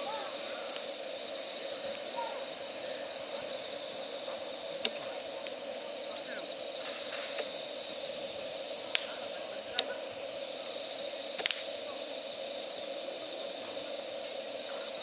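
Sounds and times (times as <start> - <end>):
campfire crackling: 0.0 - 15.0
insect trill: 0.0 - 15.0.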